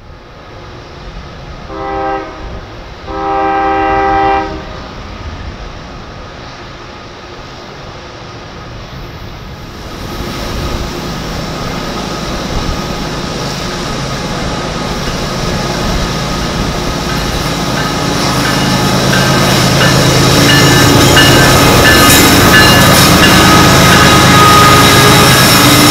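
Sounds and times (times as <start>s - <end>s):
diesel locomotive engine rumble: 0.0s - 25.9s
train wheels on rails: 0.0s - 25.9s.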